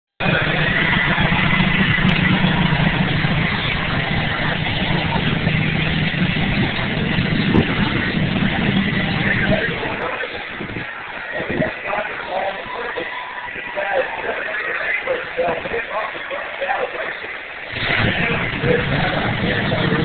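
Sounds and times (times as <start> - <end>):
monster truck engine running: 0.2 - 20.0.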